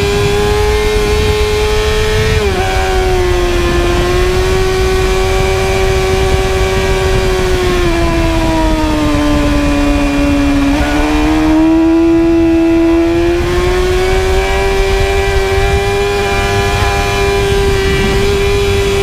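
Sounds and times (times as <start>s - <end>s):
sport bike engine at high revs: 0.0s - 19.0s
wind on microphone: 0.0s - 19.0s.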